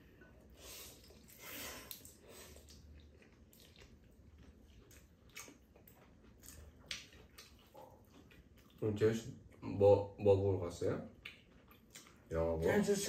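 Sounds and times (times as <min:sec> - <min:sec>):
people slurping and chewing noodles: 0:00.0 - 0:09.6, 0:11.1 - 0:12.4.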